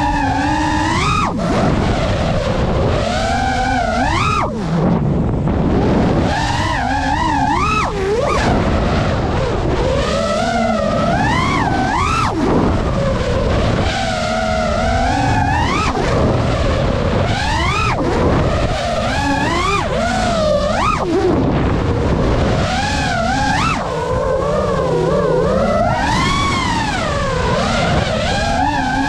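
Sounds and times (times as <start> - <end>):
quadcopter motors buzzing: 0.0 - 29.0
wind rumble: 0.0 - 29.0.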